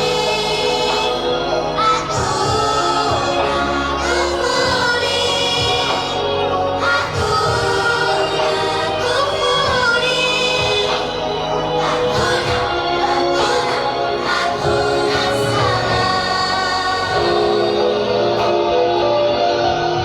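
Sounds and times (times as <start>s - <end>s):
children singing in chorus: 0.0s - 18.5s
backing music: 0.0s - 20.0s.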